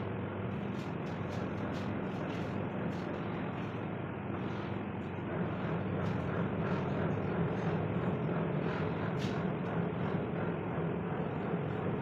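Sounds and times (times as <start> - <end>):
ship machinery hum: 0.0 - 12.0.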